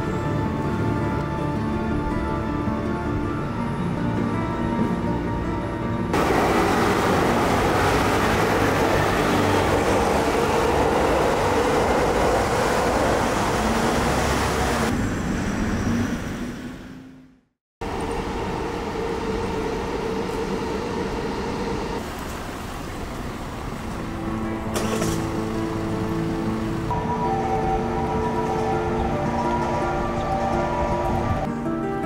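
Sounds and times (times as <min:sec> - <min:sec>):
city street traffic: 0:00.0 - 0:32.0
train noise at station: 0:00.0 - 0:32.0.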